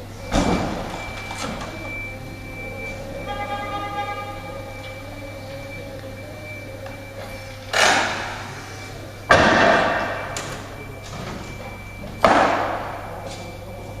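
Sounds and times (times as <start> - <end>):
heavy bangs: 0.0 - 14.0.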